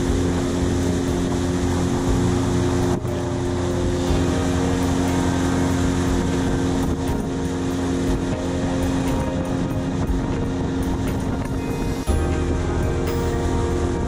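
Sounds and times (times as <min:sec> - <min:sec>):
outboard motor running: 0:00.0 - 0:14.0
water noise: 0:00.0 - 0:14.0
wind: 0:00.0 - 0:14.0.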